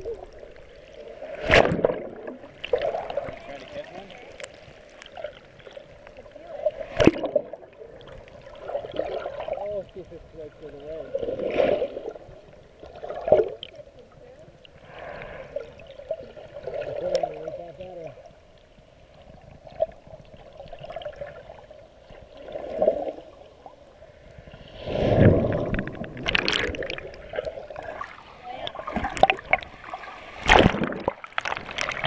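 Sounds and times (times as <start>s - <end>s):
muffled water sloshing: 0.0s - 32.0s.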